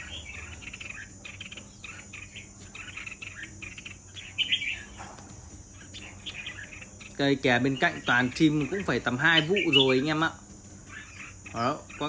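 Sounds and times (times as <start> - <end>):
bulbuls chattering calls: 0.0 - 12.0.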